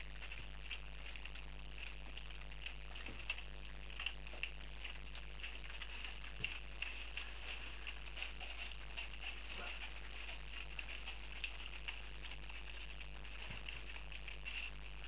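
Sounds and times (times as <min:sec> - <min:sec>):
puppies lapping and chewing: 0:00.0 - 0:15.0.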